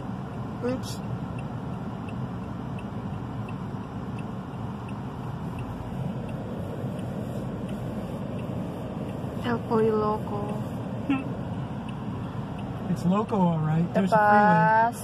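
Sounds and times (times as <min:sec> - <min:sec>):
faint regular ticking: 0:00.0 - 0:14.1
car engine and tyres rumble: 0:00.0 - 0:15.0.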